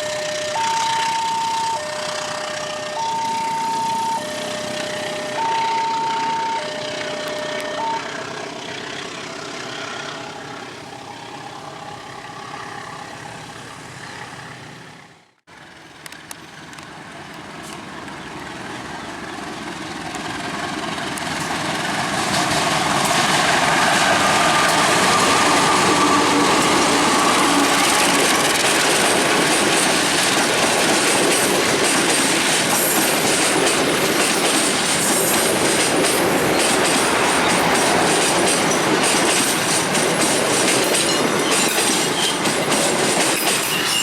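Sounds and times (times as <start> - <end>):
train approaching: 0.0 - 44.0
train rumble with engine hum: 0.0 - 44.0.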